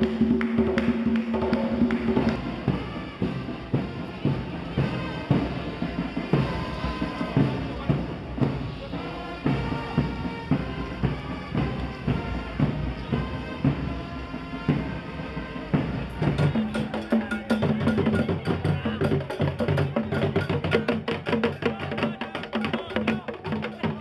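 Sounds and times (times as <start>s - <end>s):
sharp wood-like percussion: 0.0s - 13.9s, 15.7s - 24.0s
hand drums: 0.0s - 24.0s.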